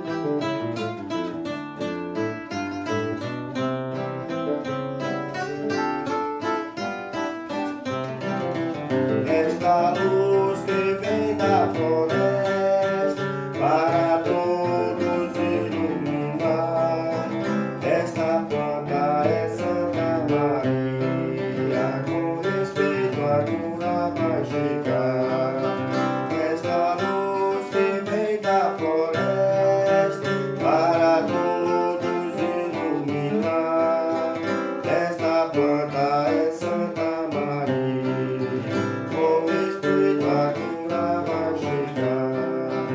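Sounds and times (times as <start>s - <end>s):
acoustic guitar strumming: 0.0s - 42.9s
person singing a hymn: 7.4s - 42.9s.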